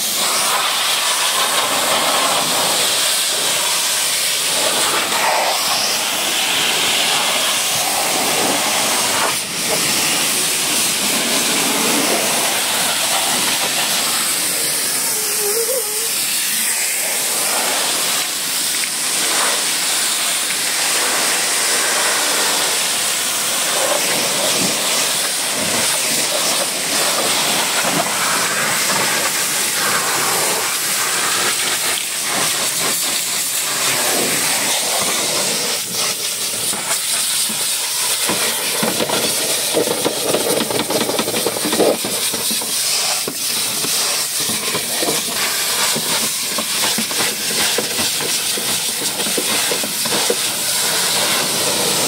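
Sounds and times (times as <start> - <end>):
pressure washer spraying: 0.0 - 52.0.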